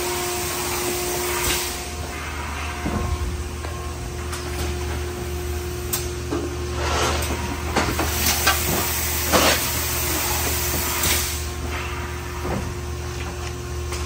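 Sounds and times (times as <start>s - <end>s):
industrial machinery humming: 0.0s - 14.0s.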